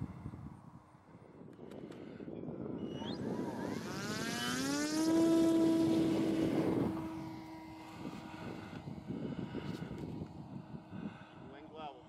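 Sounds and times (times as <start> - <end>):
model plane motor and propeller: 0.6 - 12.0.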